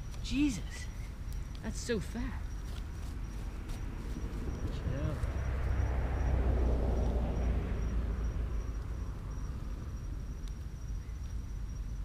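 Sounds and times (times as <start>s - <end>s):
crickets chirping: 0.0s - 12.0s
steady low rumble: 0.0s - 12.0s.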